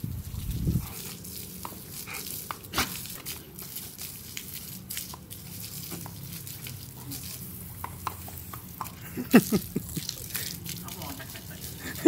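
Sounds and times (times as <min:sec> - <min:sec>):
hose water jet hissing: 0:00.0 - 0:12.0
dog biting at water stream: 0:00.3 - 0:12.0.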